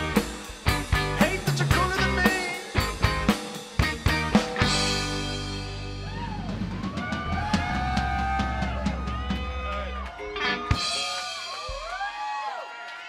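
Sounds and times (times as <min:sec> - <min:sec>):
drum and cymbal hits: 0:00.0 - 0:10.1, 0:10.7 - 0:12.4
held bass notes: 0:00.0 - 0:10.8.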